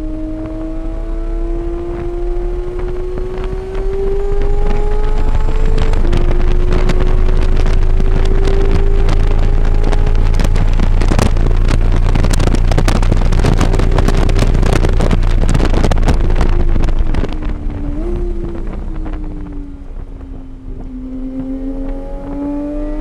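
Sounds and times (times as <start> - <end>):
vehicle engine pulling hard: 0.0 - 23.0
wind buffeting on microphone: 0.0 - 23.0.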